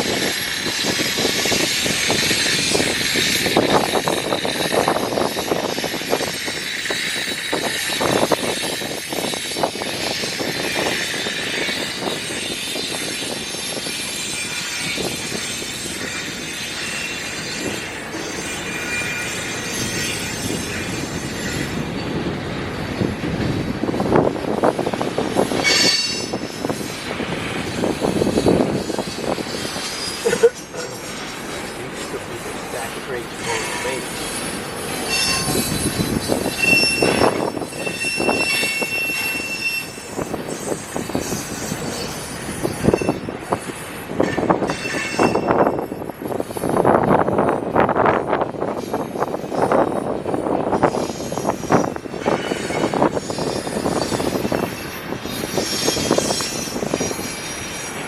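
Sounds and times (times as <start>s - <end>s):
train wheels squealing on rails: 0.0s - 58.0s.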